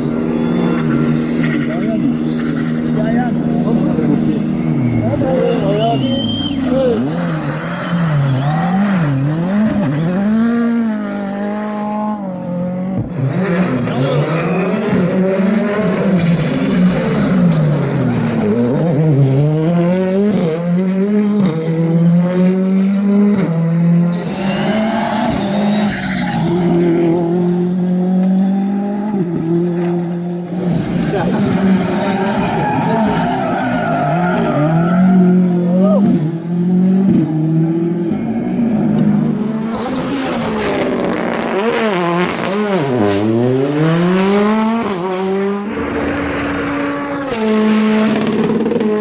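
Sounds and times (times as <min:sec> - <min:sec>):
rally car engine revving: 0:00.0 - 0:49.0.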